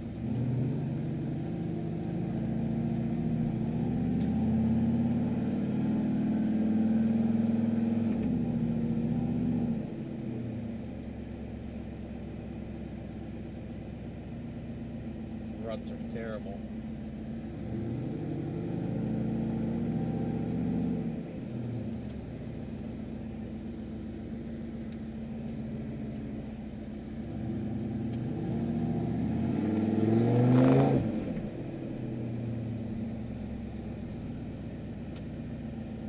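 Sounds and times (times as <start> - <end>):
truck engine and exhaust: 0.0 - 36.0.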